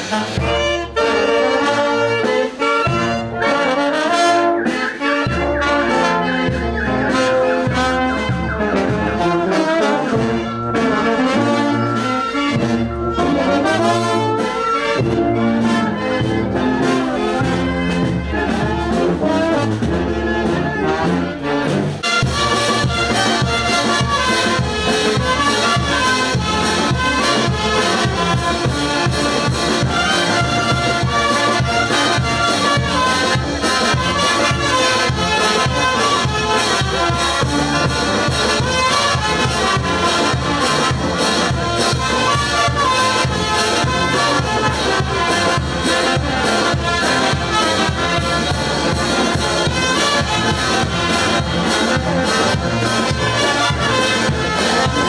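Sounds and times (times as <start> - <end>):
brass band playing street music: 0.0 - 55.0.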